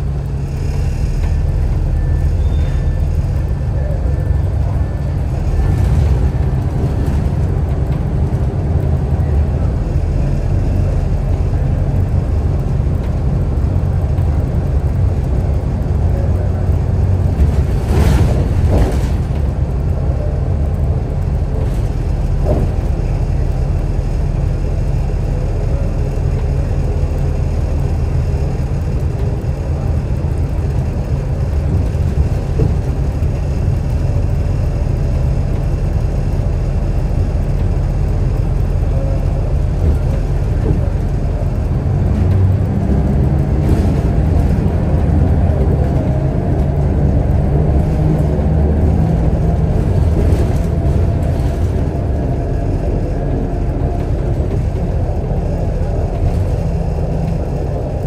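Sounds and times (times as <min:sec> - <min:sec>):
bus diesel engine rumbling: 0:00.0 - 0:58.0.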